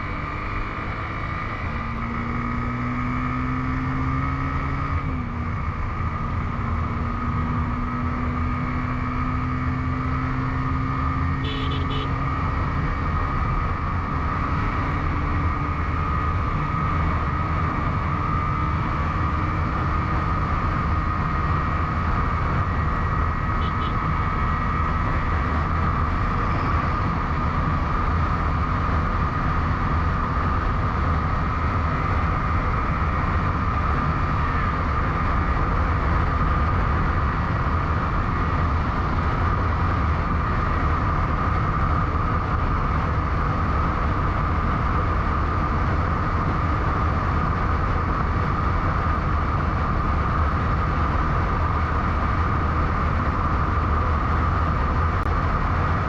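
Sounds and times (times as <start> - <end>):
motorcycle engine and tyre whine: 0.0 - 56.0.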